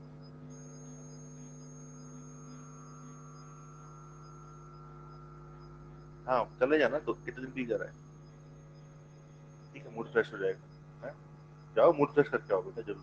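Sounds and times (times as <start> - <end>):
electrical mains hum: 0.0 - 13.0
faint high-pitched whine: 0.0 - 13.0.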